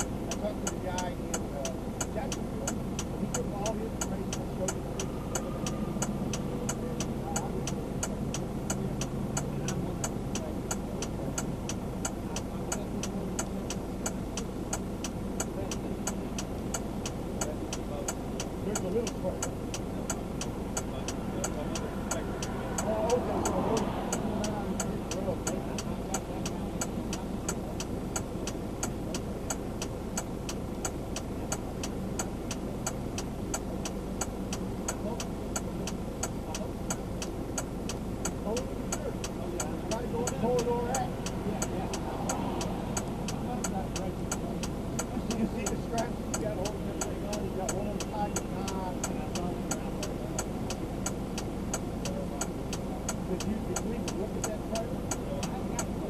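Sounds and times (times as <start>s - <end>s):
car engine running: 0.0s - 56.0s
sharp regular ticking: 0.0s - 56.0s
turn signal relay clicking: 0.0s - 56.0s.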